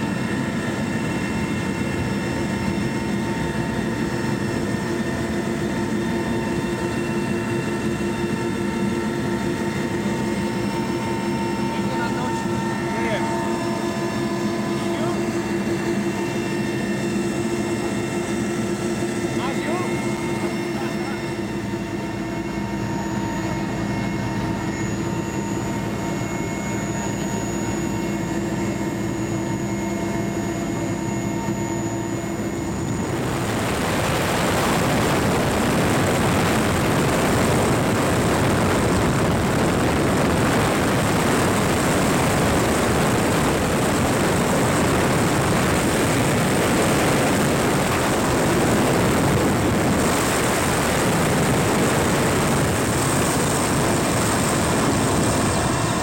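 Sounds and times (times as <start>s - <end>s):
helicopter engine whine: 0.0s - 56.0s.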